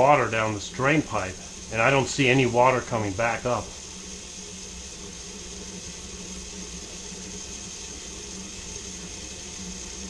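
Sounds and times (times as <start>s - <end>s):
water pouring down drain pipe: 0.0s - 10.0s.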